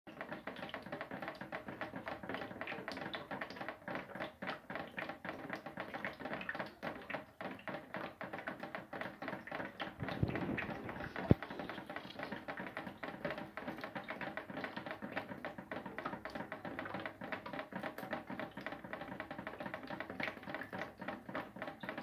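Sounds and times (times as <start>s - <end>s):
water dripping into buckets: 0.1s - 22.0s.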